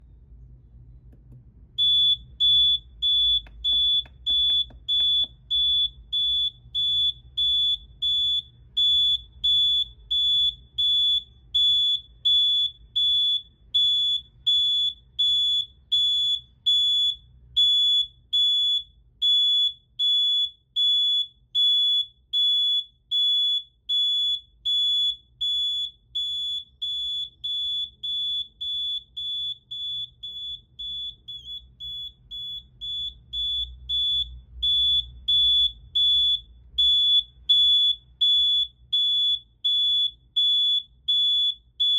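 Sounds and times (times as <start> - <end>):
piezo alarm buzzer beeping: 1.8 - 41.9.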